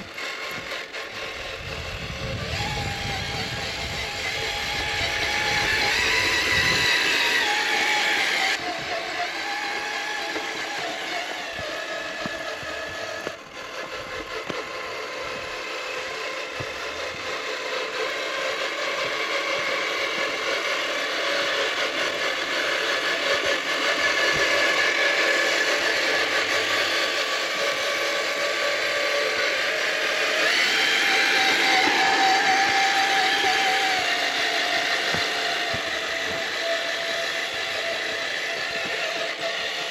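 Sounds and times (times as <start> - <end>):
toy car electric motor whining: 0.0 - 39.9.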